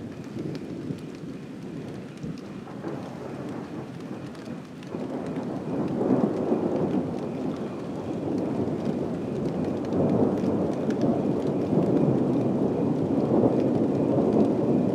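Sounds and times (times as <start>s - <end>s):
steady rain: 0.0s - 14.9s
thunder rumbling: 0.0s - 14.9s.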